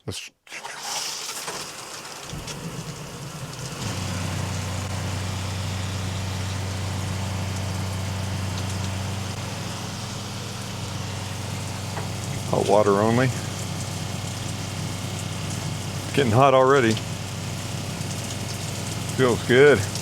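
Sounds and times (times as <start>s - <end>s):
water running from a tap: 0.9s - 20.0s
low machine hum: 2.3s - 20.0s.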